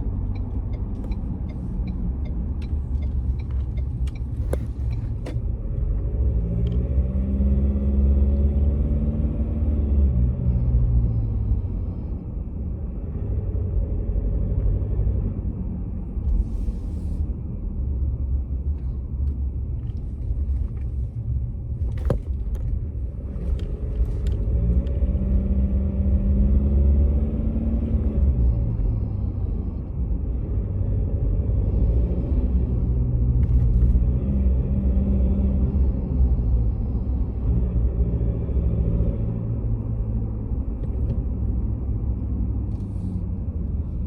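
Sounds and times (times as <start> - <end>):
diesel engine low rumble: 0.0 - 44.0.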